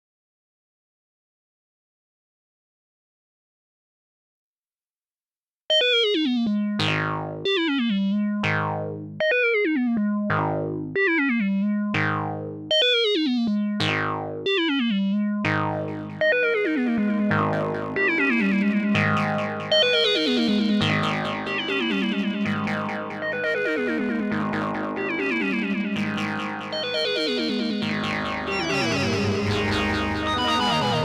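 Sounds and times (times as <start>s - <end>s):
synthesizer notes with falling sweeps: 5.7s - 31.0s.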